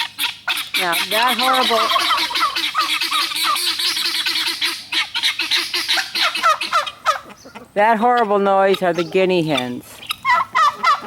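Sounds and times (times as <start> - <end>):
guinea fowl calling: 0.0 - 11.0.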